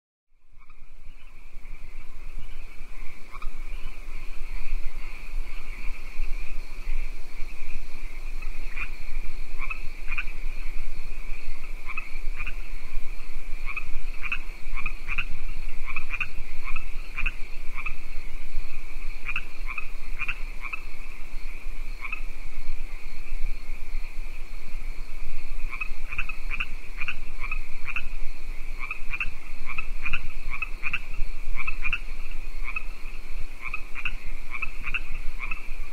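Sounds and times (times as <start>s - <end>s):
frogs trilling drone: 0.4s - 35.9s
sharp frog calls: 0.4s - 35.9s.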